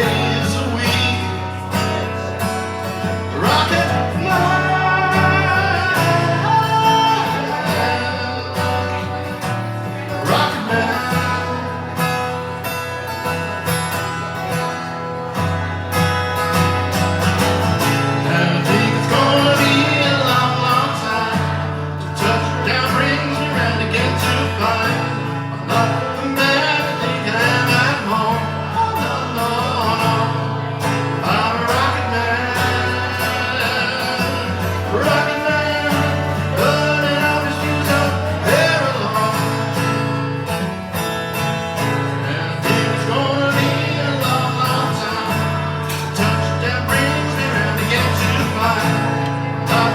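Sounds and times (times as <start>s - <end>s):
person singing: 0.0s - 13.1s, 17.9s - 40.2s, 41.8s - 49.9s
acoustic guitar: 0.0s - 49.9s.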